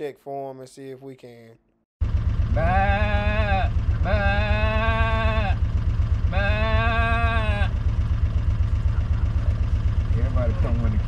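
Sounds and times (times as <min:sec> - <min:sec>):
vehicle engine idling: 0:02.0 - 0:11.0.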